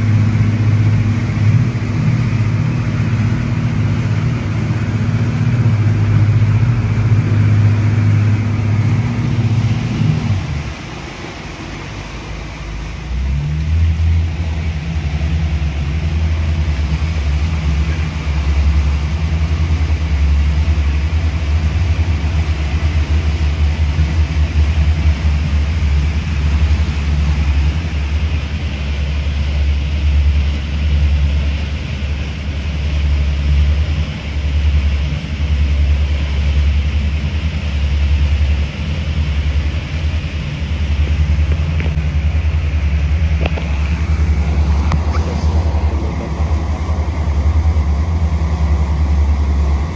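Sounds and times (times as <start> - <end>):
outboard motors droning: 0.0 - 49.9
water rushing along hull: 0.0 - 49.9.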